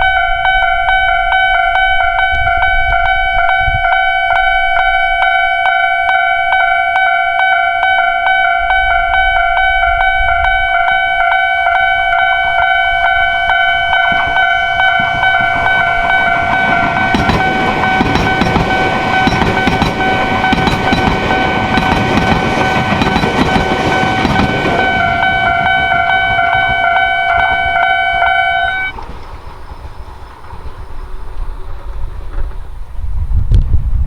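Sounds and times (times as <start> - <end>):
level-crossing alarm ringing: 0.0 - 32.5
train rumble and wheel clatter: 0.0 - 34.0.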